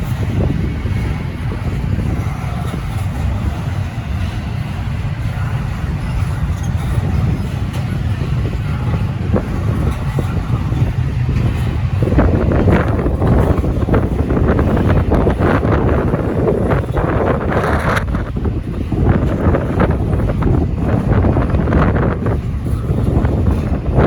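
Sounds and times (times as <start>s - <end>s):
freight train rumbling past: 0.0s - 24.0s
wind buffeting microphone: 0.0s - 24.0s.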